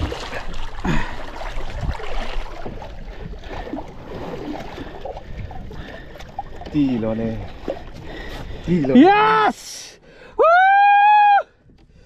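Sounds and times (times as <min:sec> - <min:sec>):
water splashing against boat: 0:00.0 - 0:10.2.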